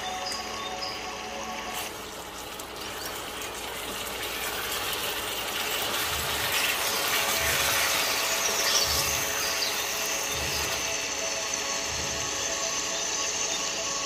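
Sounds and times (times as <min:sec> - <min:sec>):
sauce sizzling in a wok: 0:01.8 - 0:14.0.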